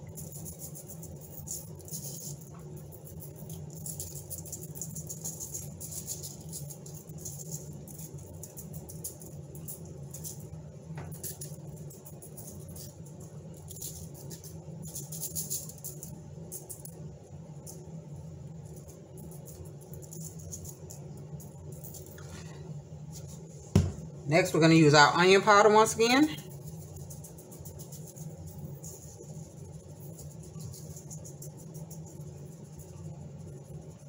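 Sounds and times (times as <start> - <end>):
salt rattling in shaker bottle: 0.0 - 16.9, 18.6 - 22.3, 26.4 - 34.0.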